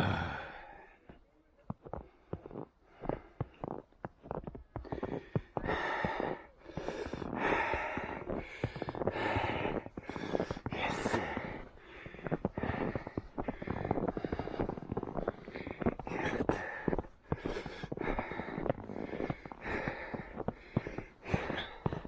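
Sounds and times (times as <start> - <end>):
runner breathing heavily: 0.0 - 1.1, 1.9 - 22.0
footsteps crunching in snow: 1.7 - 22.0.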